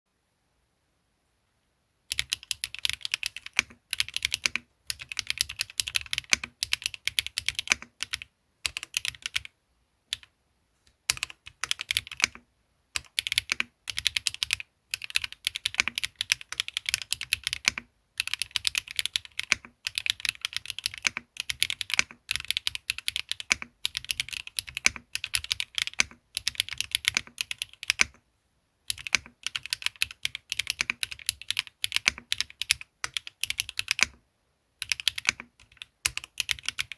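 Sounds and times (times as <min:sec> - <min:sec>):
mechanical keyboard typing: 0:02.1 - 0:09.5, 0:10.1 - 0:10.3, 0:11.1 - 0:12.4, 0:13.0 - 0:28.2, 0:28.9 - 0:34.2, 0:34.8 - 0:36.9.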